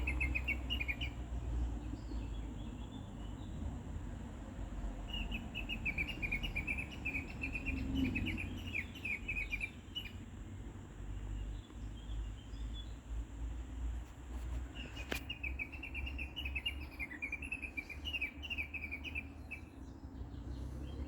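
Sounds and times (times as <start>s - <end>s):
small bird singing: 0.0s - 3.6s, 4.8s - 10.4s, 11.1s - 13.5s, 14.6s - 21.0s.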